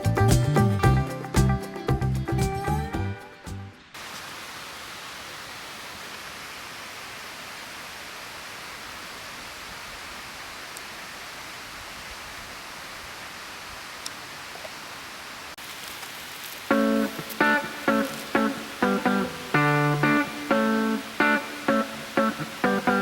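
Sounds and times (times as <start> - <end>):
outdoor ambient hiss: 0.0 - 23.0.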